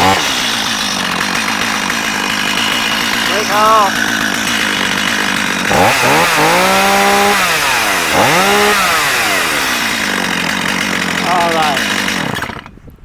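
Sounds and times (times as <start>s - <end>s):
chainsaw idling and revving: 0.0s - 12.8s.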